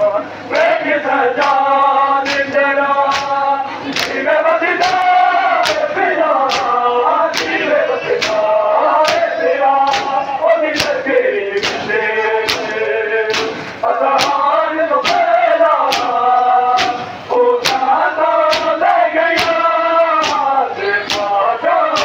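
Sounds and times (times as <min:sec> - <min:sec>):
crowd of men chanting: 0:00.0 - 0:22.0.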